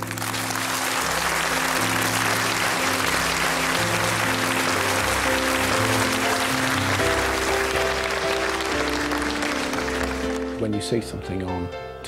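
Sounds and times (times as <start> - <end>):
audience applauding: 0.0 - 10.7
theme music: 0.0 - 12.0.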